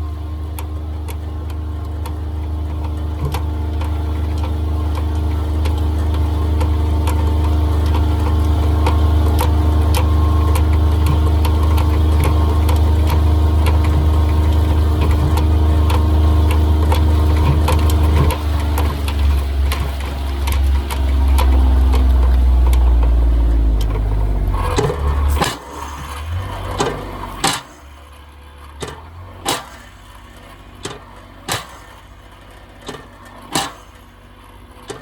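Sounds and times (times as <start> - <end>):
engine humming: 0.0 - 35.0
sharp clicks and rattles: 0.4 - 35.0.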